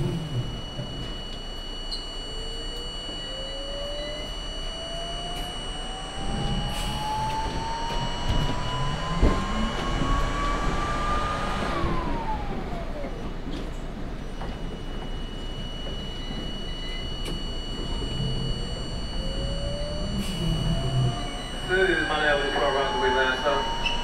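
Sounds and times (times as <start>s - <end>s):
steady high tone: 0.0s - 13.4s, 14.4s - 24.0s
subway train whine: 0.0s - 24.0s.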